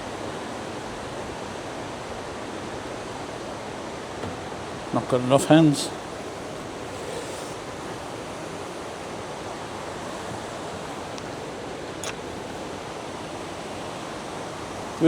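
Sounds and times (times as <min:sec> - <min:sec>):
river rushing over cascades: 0:00.0 - 0:15.0.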